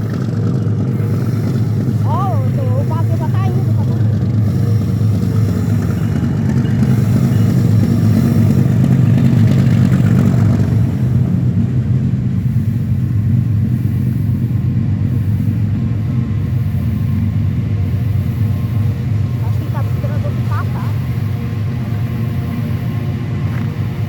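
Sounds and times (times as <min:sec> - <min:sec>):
diesel locomotive rumble: 0:00.0 - 0:24.0.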